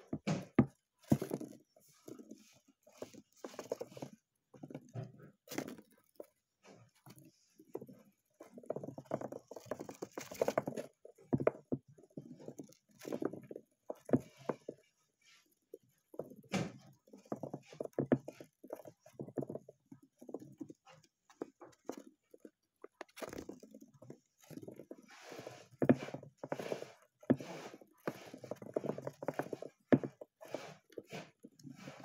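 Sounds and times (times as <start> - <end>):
hamster paws scrabbling on plastic: 0.0 - 32.0.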